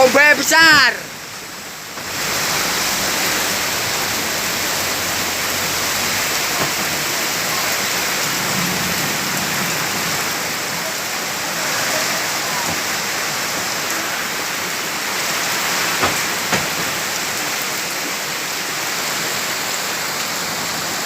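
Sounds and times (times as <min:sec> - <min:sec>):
heavy flood water rushing: 0:00.0 - 0:21.0.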